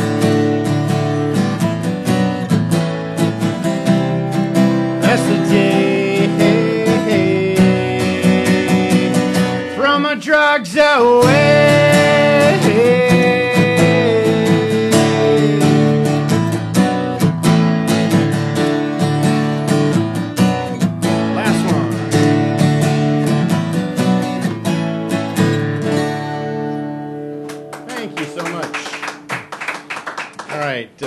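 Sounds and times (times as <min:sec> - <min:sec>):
acoustic guitar strumming: 0:00.0 - 0:30.7.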